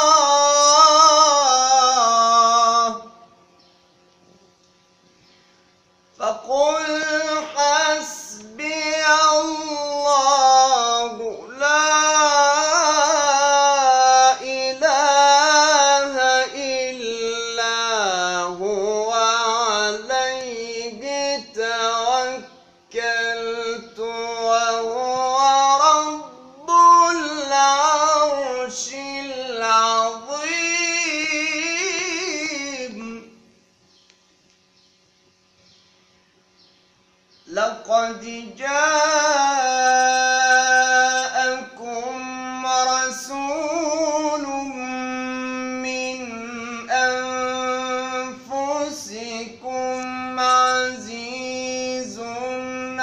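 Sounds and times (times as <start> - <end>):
man reciting melodically: 0.0 - 3.4, 6.1 - 33.5, 37.4 - 53.0.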